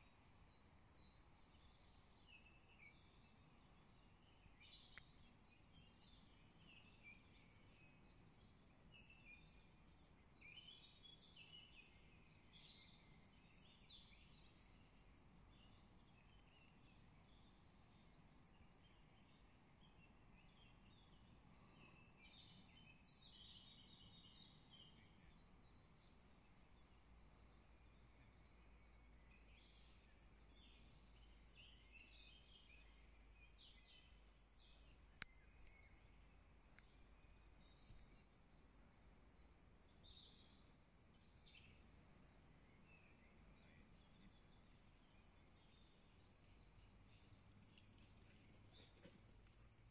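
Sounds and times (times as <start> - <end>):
faint birdsong: 0.0 - 49.9.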